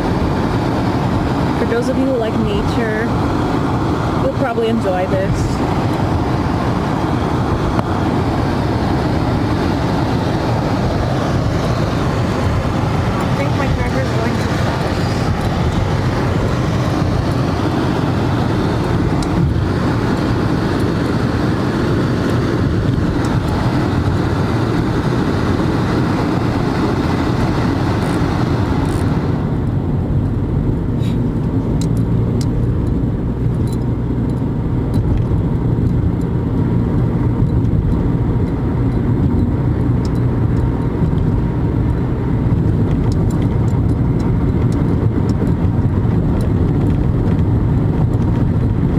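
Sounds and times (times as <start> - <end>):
car road and engine rumble: 0.0 - 48.9
wind and tyre hiss: 0.0 - 48.9.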